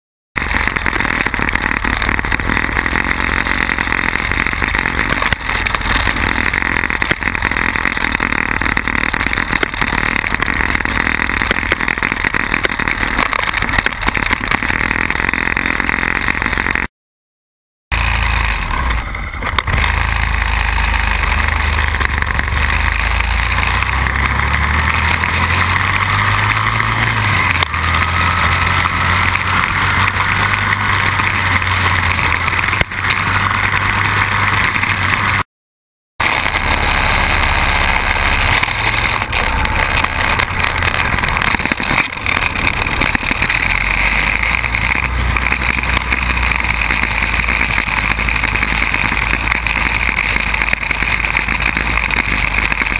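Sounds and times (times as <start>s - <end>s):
quad bike engine running: 0.4s - 16.9s, 17.9s - 35.5s, 36.2s - 52.9s
steady rush of noise: 0.4s - 16.9s, 17.9s - 35.5s, 36.2s - 52.9s.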